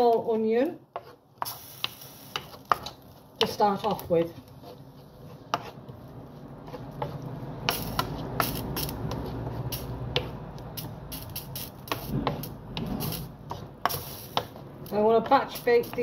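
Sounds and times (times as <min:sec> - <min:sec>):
spoon scraping frying pan: 0:00.9 - 0:16.0.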